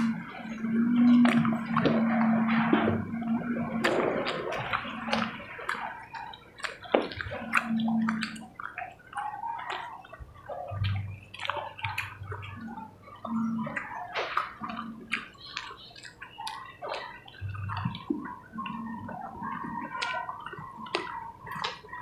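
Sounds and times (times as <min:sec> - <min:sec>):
wet chewing and lip-smacking: 0:00.0 - 0:22.0.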